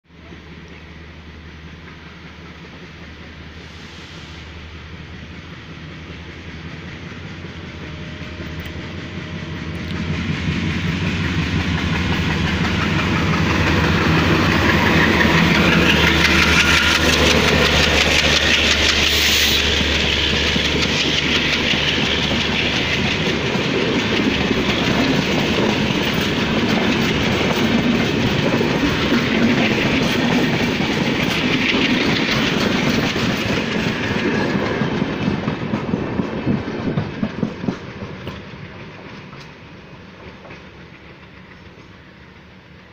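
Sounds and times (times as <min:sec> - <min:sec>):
locomotive engine drone: 0:00.1 - 0:35.7
train wheels clickety-clack: 0:05.0 - 0:42.9.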